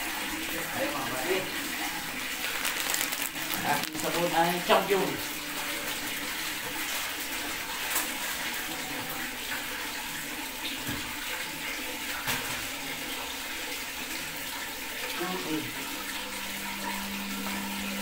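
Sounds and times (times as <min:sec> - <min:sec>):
water running into washing machine: 0:00.0 - 0:18.0.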